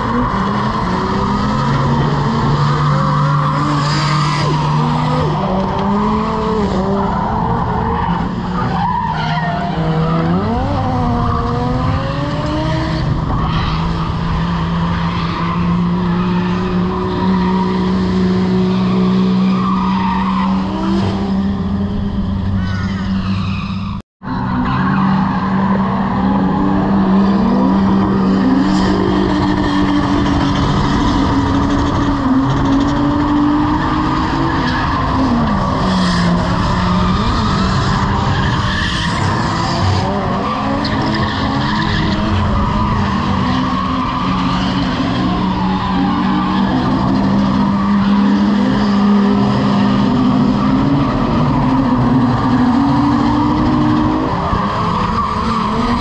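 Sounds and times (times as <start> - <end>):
tyres skidding: 0.0 - 56.0.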